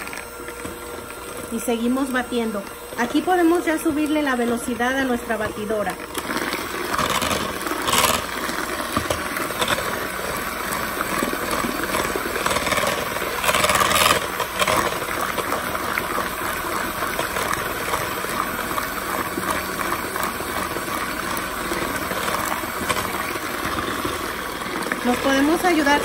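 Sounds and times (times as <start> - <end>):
electric hand mixer whirring: 0.0 - 26.0.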